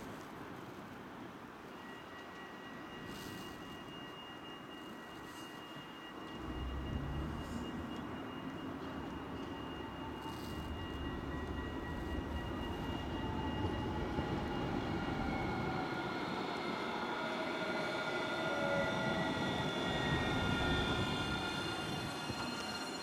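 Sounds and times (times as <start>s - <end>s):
tram on rails: 0.0s - 23.0s.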